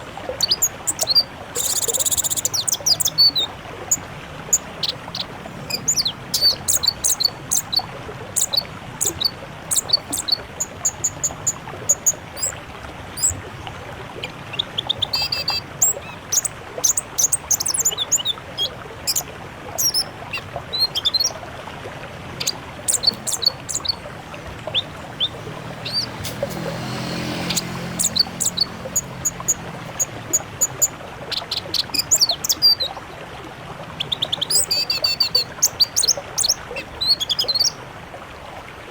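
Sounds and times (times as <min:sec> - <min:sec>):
songbirds chirping and trilling: 0:00.0 - 0:33.0, 0:34.0 - 0:37.8.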